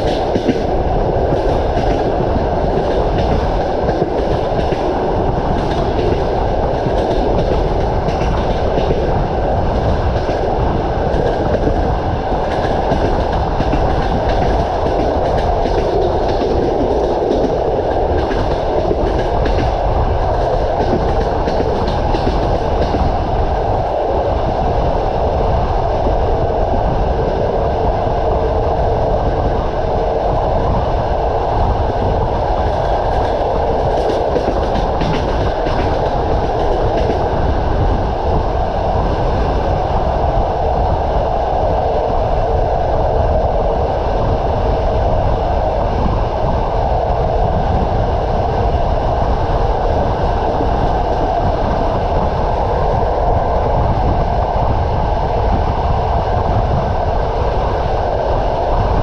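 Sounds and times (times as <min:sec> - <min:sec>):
train wheels on rails: 0:00.0 - 0:59.0.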